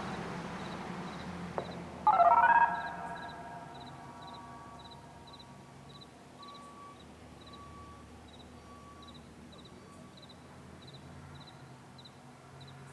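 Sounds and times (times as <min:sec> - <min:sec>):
faint insect chirping: 0:02.1 - 0:12.8.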